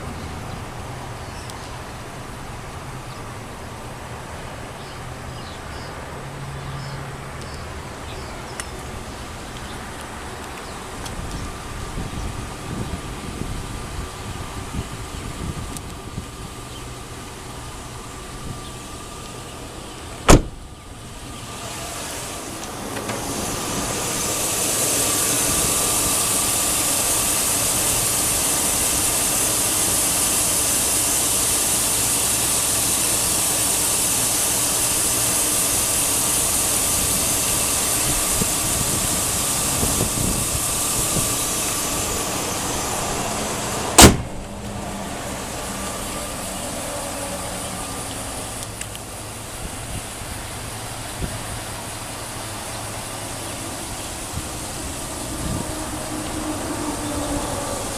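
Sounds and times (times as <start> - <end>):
steady rushing mechanical noise: 11.1 - 57.9.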